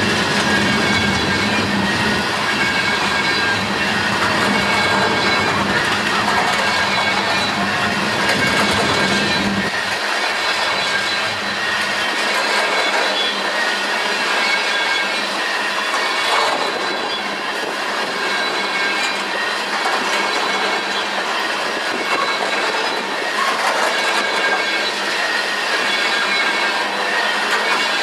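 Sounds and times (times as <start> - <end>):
freight train cars rolling: 0.0 - 28.0
steel wheels on rails: 0.0 - 28.0
faint high wheel squeal: 0.4 - 28.0.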